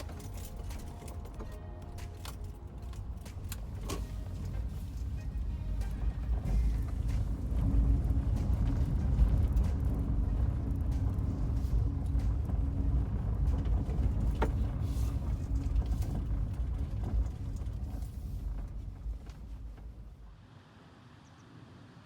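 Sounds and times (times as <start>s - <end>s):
car engine rumbling: 0.0s - 20.4s.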